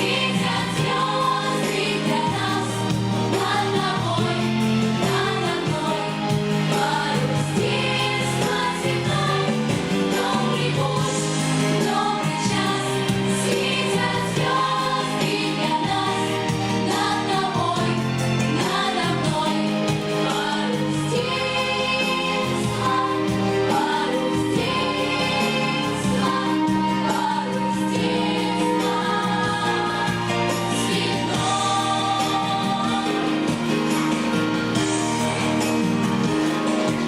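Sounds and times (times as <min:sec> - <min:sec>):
backing track: 0:00.0 - 0:37.0
group of voices singing: 0:00.0 - 0:37.0.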